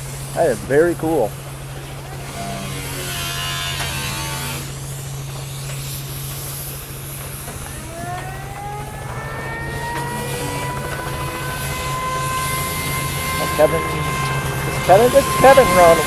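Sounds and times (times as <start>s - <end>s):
engine running with low hum: 0.0s - 16.0s
rising whine: 0.0s - 16.0s.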